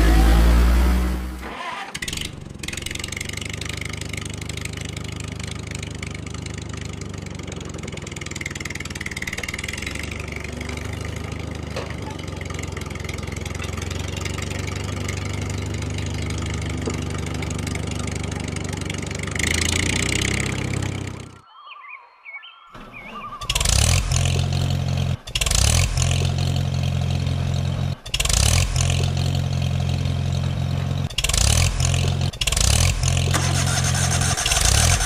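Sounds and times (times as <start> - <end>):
vehicle engine running: 0.0 - 21.4, 22.8 - 35.0.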